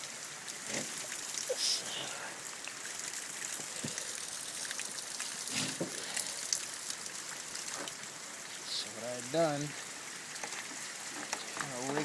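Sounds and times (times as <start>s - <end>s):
rain falling: 0.0s - 12.0s
water trickling and dripping: 0.0s - 12.0s.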